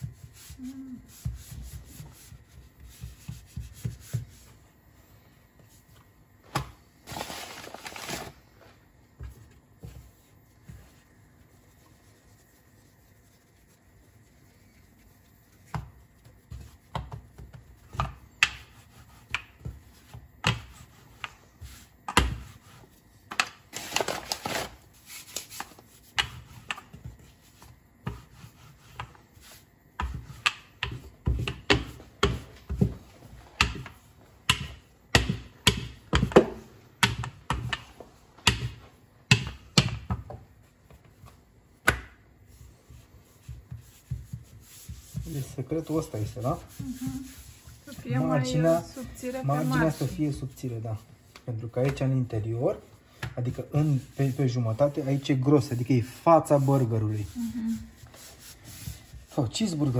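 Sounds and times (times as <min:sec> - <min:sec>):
hands rubbing and patting dough: 0:00.0 - 0:59.9.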